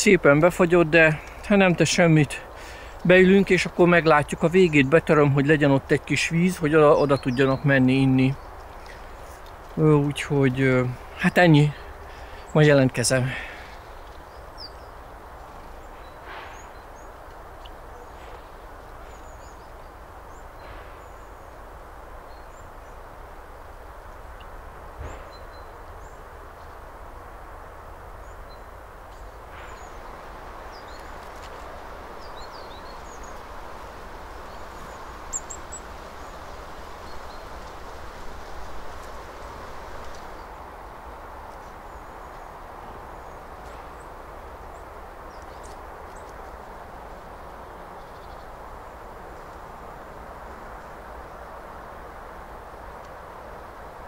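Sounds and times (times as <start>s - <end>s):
small birds chirping: 0.0s - 23.3s, 28.2s - 54.0s
rushing outdoor background noise: 0.0s - 54.0s.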